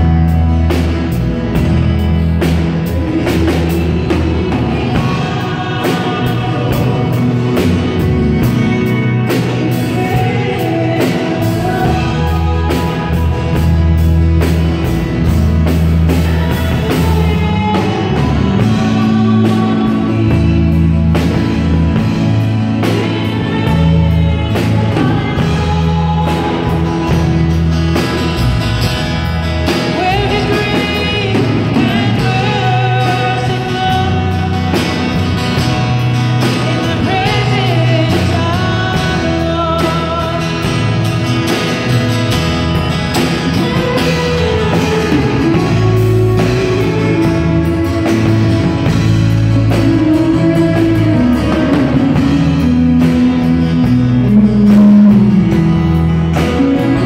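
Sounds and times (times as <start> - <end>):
band playing: 0.0 - 57.0
woman singing: 2.4 - 28.2, 29.7 - 41.1, 43.4 - 57.0.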